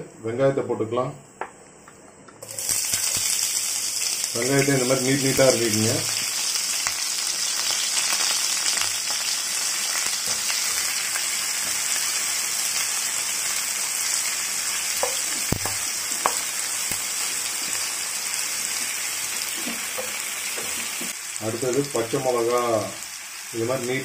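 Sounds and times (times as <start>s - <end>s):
onions sizzling in oil: 2.4s - 24.0s.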